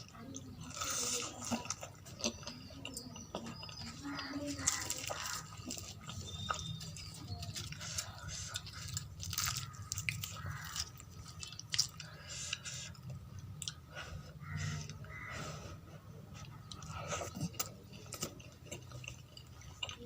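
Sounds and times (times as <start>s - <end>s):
close-up chewing: 0.0s - 20.0s.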